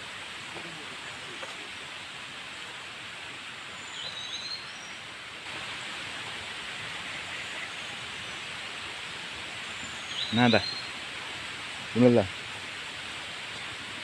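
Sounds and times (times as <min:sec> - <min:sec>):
forest rushing hiss: 0:00.0 - 0:14.0.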